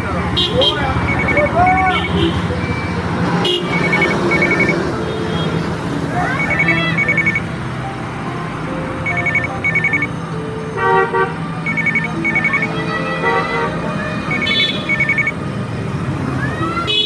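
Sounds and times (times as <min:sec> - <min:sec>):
street traffic hum: 0:00.0 - 0:17.0.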